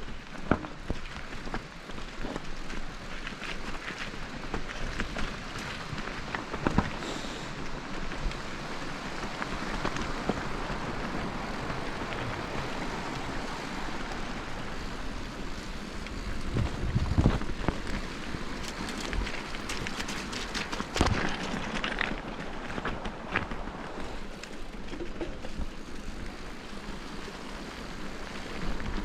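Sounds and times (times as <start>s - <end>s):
bicycle tyre and wind noise: 0.0s - 29.0s
bike knocking and rattling: 0.0s - 29.0s.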